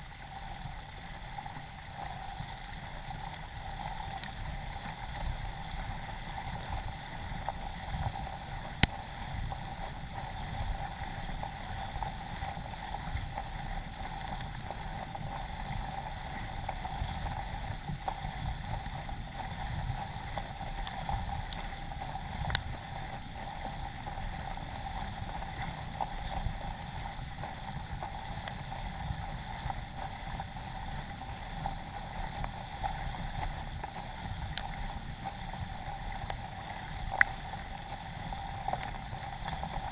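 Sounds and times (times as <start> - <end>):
water rushing along kayak hull: 0.0 - 39.9
wind rumbling on microphone: 0.0 - 39.9.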